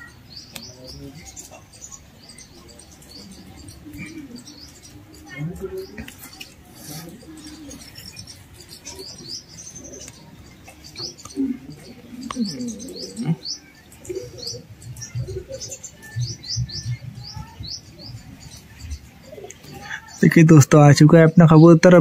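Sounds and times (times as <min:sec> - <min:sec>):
pigeon cooing: 0:00.0 - 0:20.2
small birds chirping: 0:00.0 - 0:22.0.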